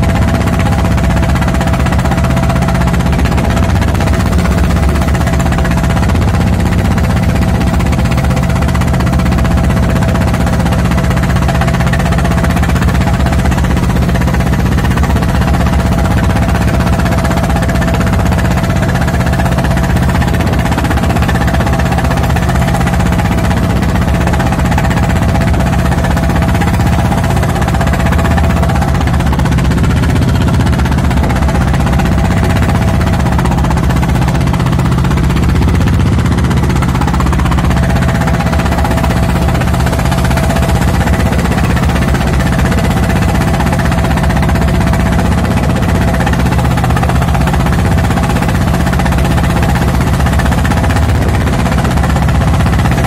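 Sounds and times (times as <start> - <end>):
boat engine knocking: 0.0 - 53.0.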